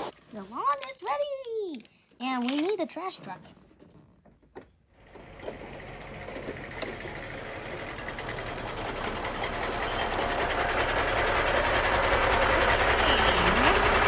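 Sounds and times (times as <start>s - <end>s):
toy truck motor whirring: 0.0s - 2.9s, 5.0s - 14.0s.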